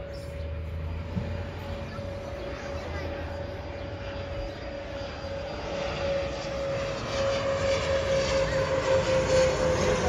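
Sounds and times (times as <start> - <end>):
jet engine whine: 0.0 - 10.0.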